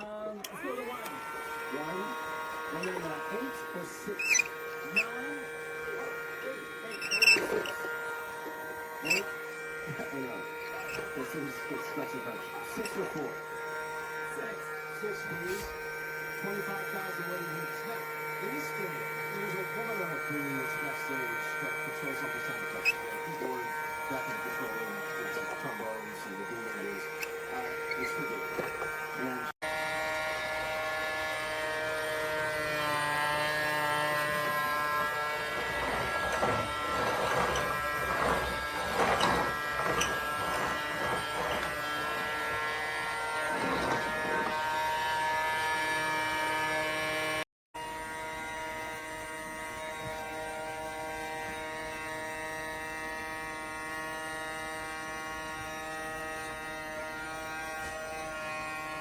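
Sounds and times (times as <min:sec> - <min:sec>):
small electric motor whining: 0:00.0 - 0:59.0.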